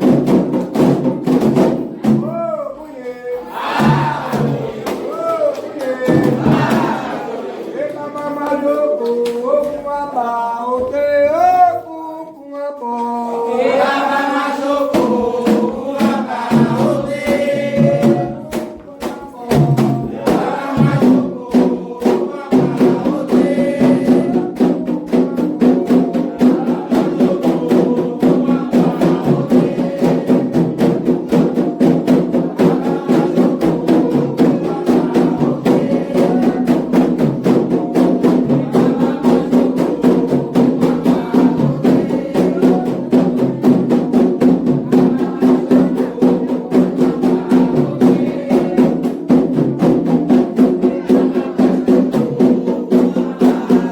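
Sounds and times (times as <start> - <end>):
drums and percussion: 0.0 - 12.4, 13.0 - 53.9
many voices singing: 0.0 - 53.9.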